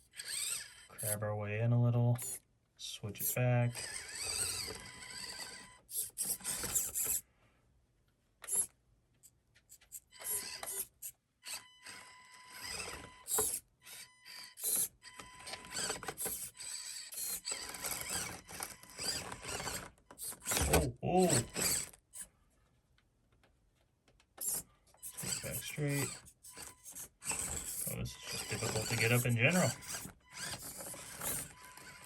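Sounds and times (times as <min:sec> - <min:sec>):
small electric motor whirring: 0:00.0 - 0:01.2, 0:02.2 - 0:02.4, 0:03.2 - 0:07.2, 0:08.4 - 0:08.7, 0:09.7 - 0:22.3, 0:24.4 - 0:32.0.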